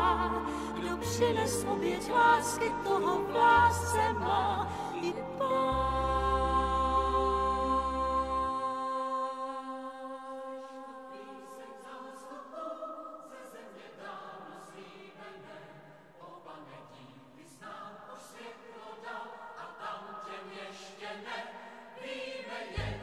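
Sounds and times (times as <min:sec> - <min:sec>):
choir singing softly: 0:00.0 - 0:23.0.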